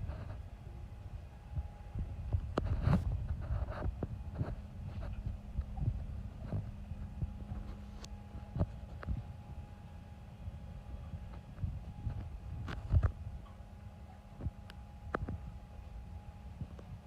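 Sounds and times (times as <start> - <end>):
engine room machinery droning: 0.0 - 17.0.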